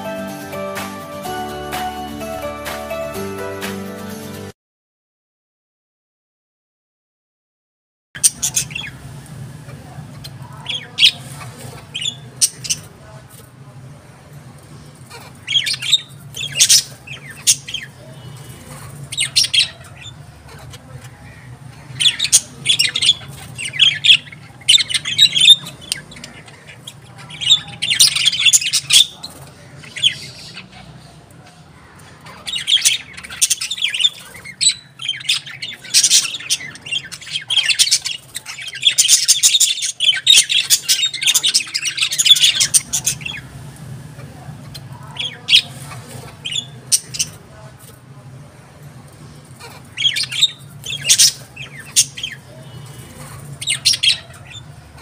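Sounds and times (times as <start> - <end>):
birds chirping and squawking: 8.2 - 55.0.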